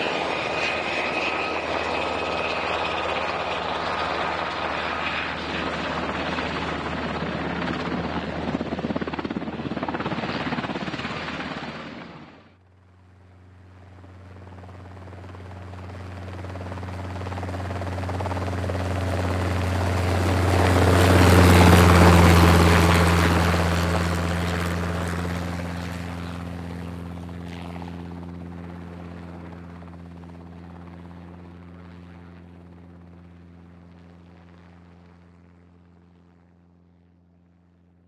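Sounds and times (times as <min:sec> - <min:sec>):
helicopter flying past: 0:00.0 - 0:38.0.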